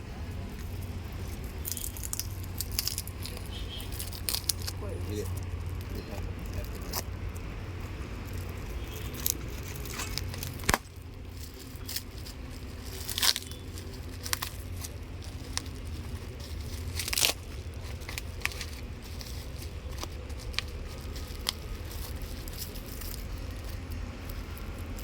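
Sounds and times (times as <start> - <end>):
steady low hum: 0.0 - 25.0
packaging crinkling and tearing: 0.5 - 25.0.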